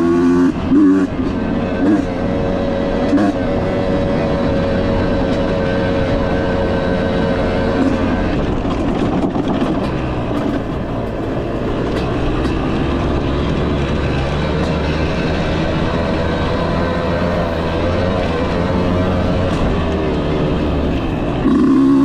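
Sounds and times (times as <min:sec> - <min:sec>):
dirt bike engine running: 0:00.0 - 0:22.0
rushing wind: 0:00.0 - 0:22.0
engine knocks: 0:00.5 - 0:22.0.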